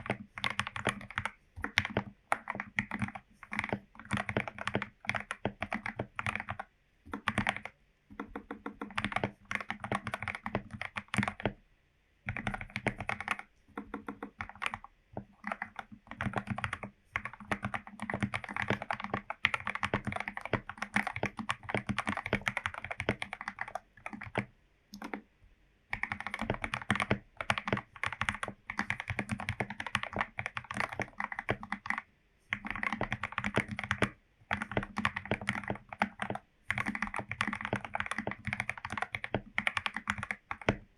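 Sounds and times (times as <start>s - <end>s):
mechanical keyboard typing: 0.0s - 11.6s, 12.3s - 25.2s, 25.9s - 40.9s.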